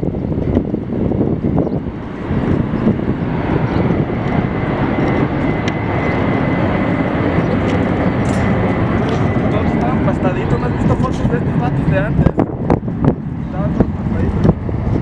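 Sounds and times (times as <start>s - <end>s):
jet engine high whine: 0.0s - 15.0s
jet engine rumble: 0.0s - 15.0s.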